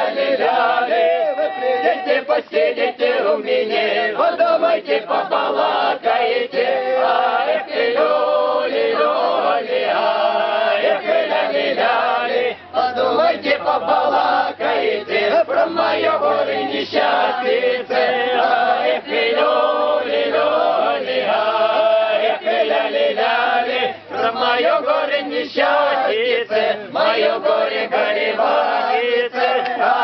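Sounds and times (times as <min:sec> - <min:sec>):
men's choir chanting and singing: 0:00.0 - 0:30.0.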